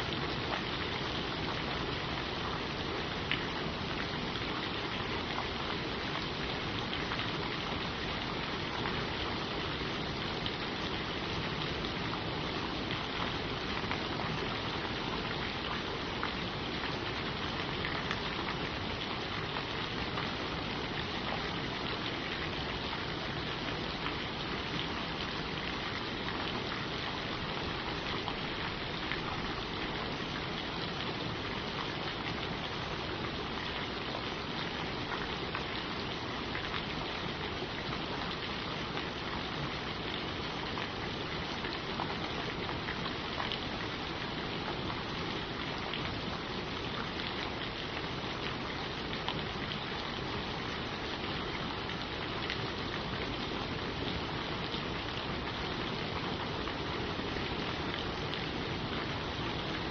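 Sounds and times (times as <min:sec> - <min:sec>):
rain on leaves: 0:00.0 - 0:59.9.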